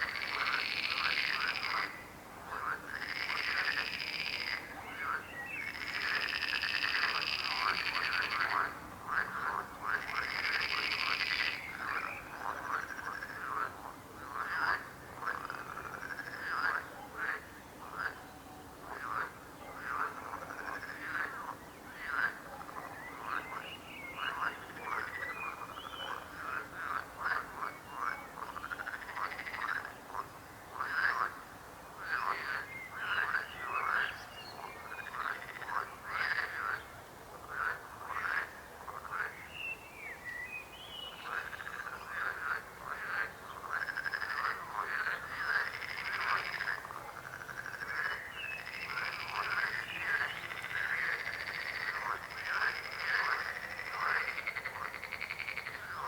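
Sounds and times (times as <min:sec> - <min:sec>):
frogs croaking: 0:00.0 - 0:56.0.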